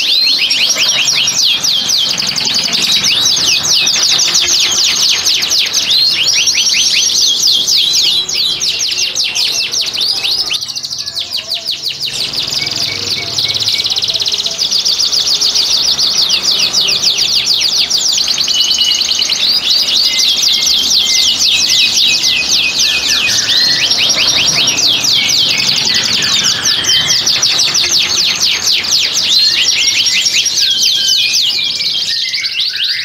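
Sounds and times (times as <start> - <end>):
canaries singing rolling trills: 0.0 - 33.0.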